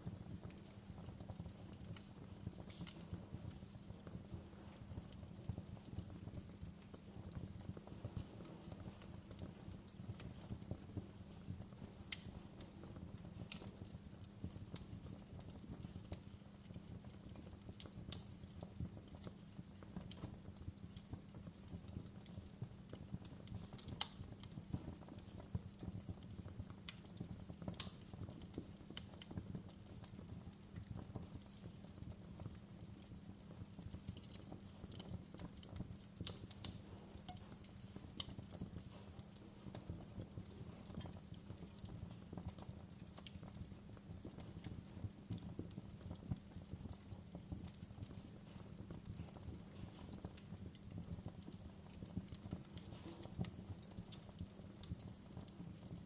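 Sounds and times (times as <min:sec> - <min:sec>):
fire crackling in fireplace: 0:00.0 - 0:56.0
fire popping: 0:00.0 - 0:56.0.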